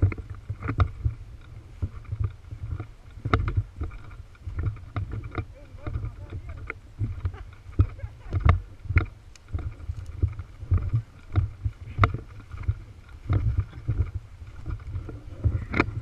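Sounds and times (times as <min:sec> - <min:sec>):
footsteps on rough ground: 0:00.0 - 0:16.0
low wind rumble: 0:00.0 - 0:16.0.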